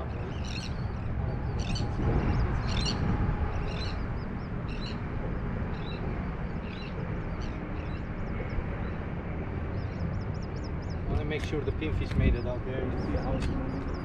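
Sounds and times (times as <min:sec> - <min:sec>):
birds calling: 0:00.0 - 0:14.0
low rumble: 0:00.0 - 0:14.0.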